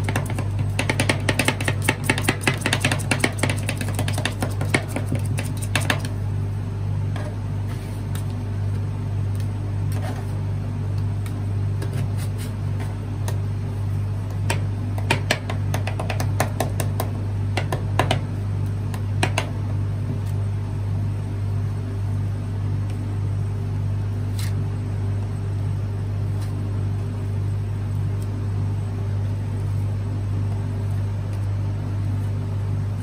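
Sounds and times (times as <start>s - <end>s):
ice cream machine humming: 0.0s - 33.0s.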